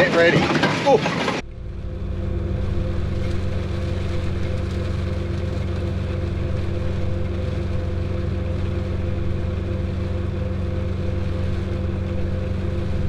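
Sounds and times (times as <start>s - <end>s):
farm machine engine droning: 0.0s - 13.0s.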